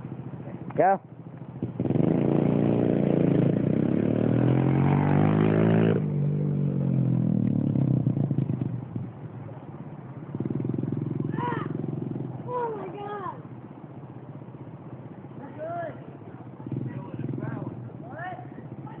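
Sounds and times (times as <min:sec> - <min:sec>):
dirt bike engine revving: 0:01.5 - 0:09.2, 0:10.2 - 0:13.6, 0:14.2 - 0:19.0.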